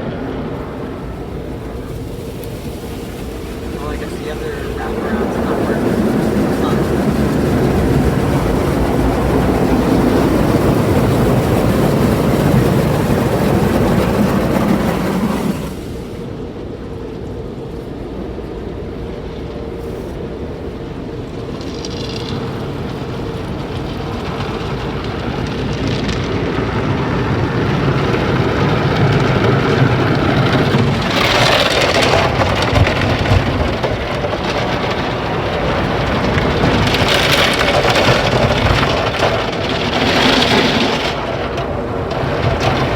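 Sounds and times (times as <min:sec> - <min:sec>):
car wash water spray: 0:00.0 - 0:16.7, 0:18.9 - 0:42.9
car wash machinery drumming: 0:00.0 - 0:42.9.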